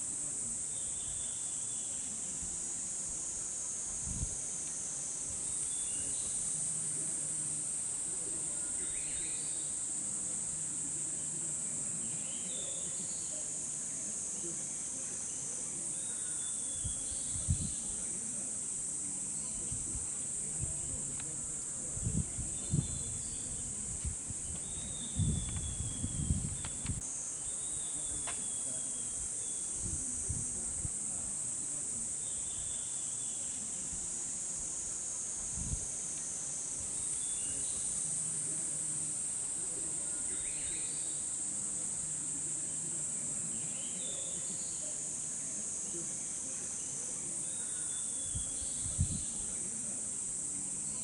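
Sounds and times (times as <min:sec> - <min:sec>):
cicadas buzzing: 0:00.0 - 0:51.0.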